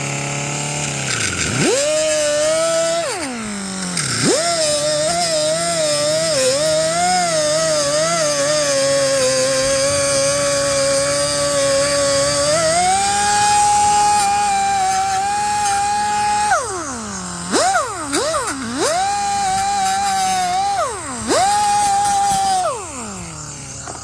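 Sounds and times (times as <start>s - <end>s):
pneumatic cut-off tool whining: 0.0s - 24.0s.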